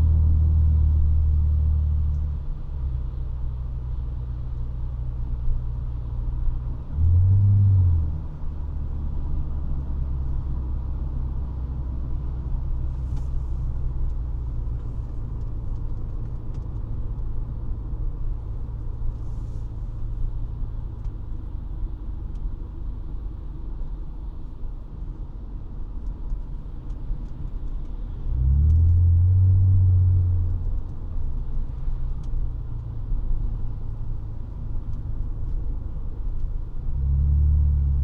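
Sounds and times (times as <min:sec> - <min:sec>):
car exhaust rumble: 0:00.0 - 0:38.0.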